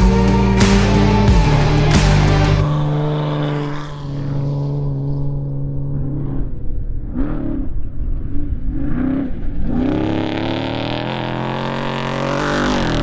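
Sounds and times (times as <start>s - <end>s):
race truck engine revving: 0.0s - 13.0s.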